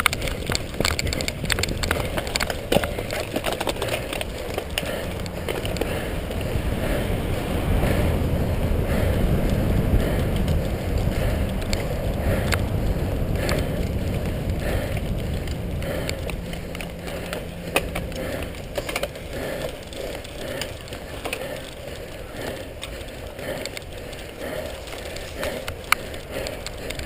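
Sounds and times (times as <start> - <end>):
bike chain rattling: 0.0 - 27.0
bike tyres rolling on grass: 0.0 - 27.0
wind rumble on microphone: 0.0 - 27.0.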